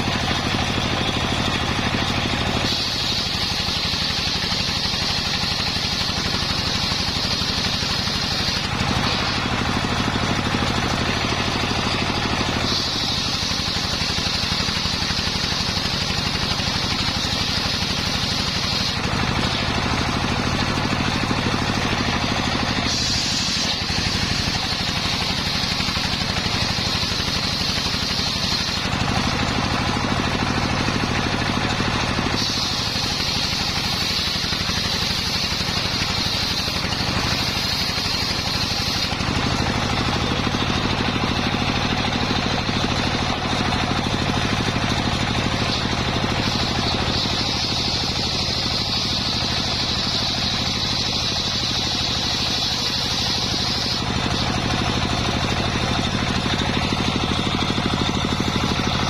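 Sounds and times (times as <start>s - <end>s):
saw cutting log: 0.0s - 59.0s
saw engine running: 0.0s - 59.0s.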